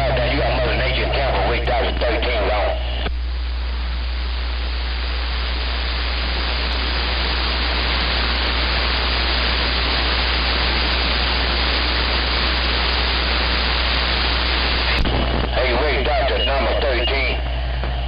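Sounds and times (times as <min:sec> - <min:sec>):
radio static hiss: 0:00.0 - 0:18.0
steady low hum: 0:00.0 - 0:18.0.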